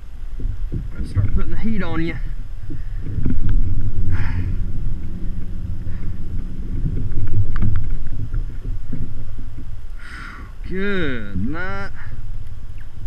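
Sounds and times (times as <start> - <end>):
wind and handling rumble: 0.0 - 13.0.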